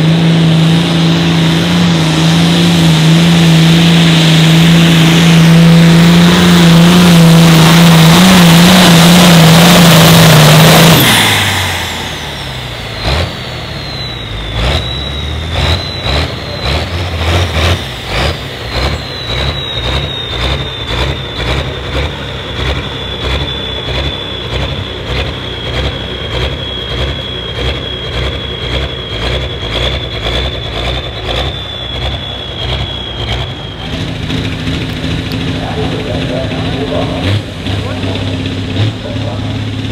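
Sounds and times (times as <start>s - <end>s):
diesel tractor engine under load: 0.0s - 39.9s
high turbo whine: 0.0s - 39.9s
regular engine pulsing: 0.0s - 39.9s.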